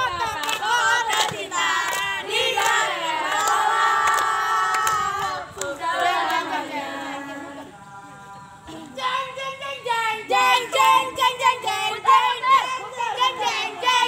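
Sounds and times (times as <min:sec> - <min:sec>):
girls singing a cheer chant: 0:00.0 - 0:07.9, 0:08.6 - 0:14.0.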